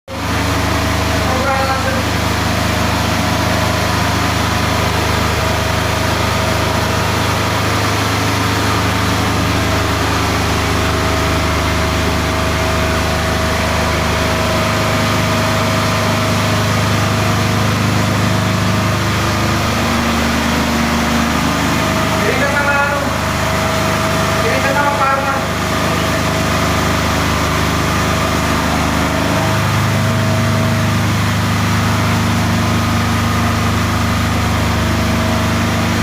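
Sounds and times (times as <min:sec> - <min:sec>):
pump motor humming: 0:00.1 - 0:36.0.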